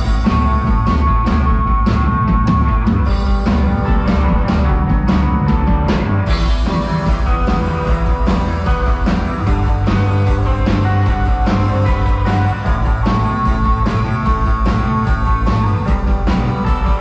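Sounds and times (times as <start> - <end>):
psychedelic rock band playing: 0.0 - 17.0.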